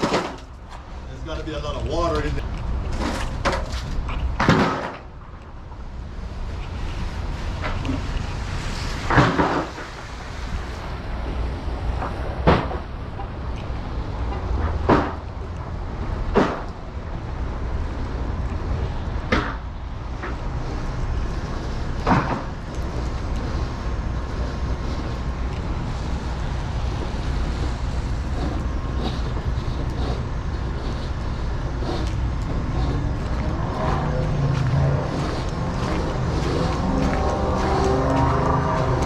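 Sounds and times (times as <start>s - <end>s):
low rumble of street noise: 0.0s - 39.0s.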